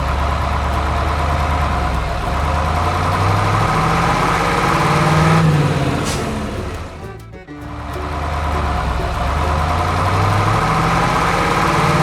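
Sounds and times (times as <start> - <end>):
vehicle engine revving: 0.0 - 12.0.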